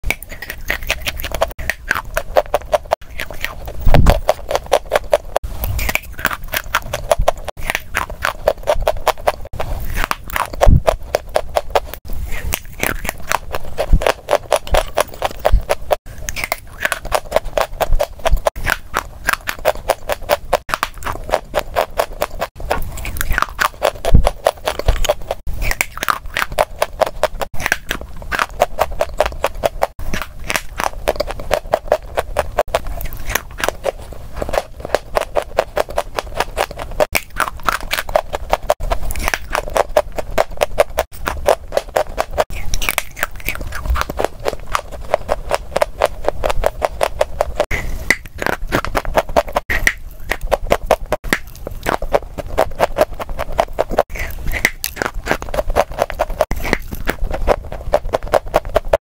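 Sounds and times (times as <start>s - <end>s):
crunchy chewing of chalk: 0.0s - 59.0s.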